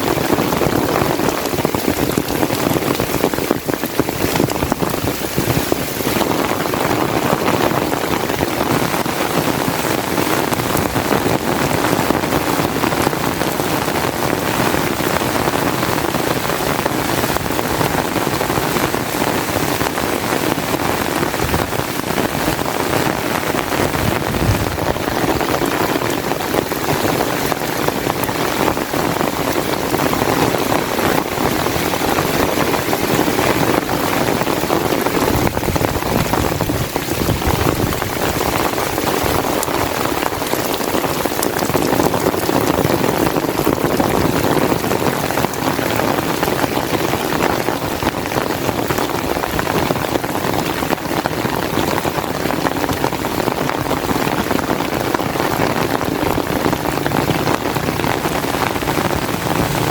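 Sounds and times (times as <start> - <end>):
loud rain hissing: 0.0 - 59.9.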